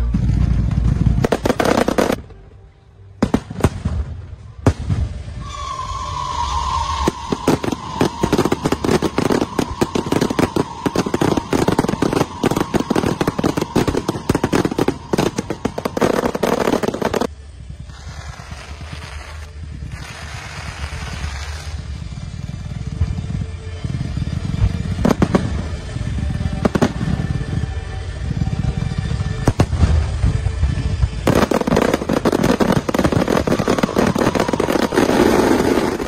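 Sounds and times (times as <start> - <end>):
firework whistling: 0.0 - 2.3, 3.3 - 36.0
fireworks bangs and crackling: 0.0 - 2.5, 3.2 - 36.0.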